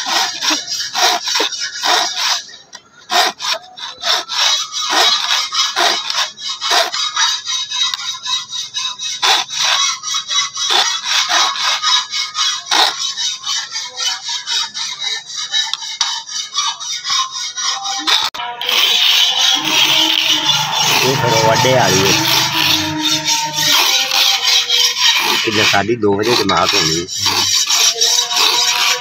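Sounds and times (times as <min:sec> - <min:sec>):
hand file rasping on blade: 0:00.0 - 0:29.0.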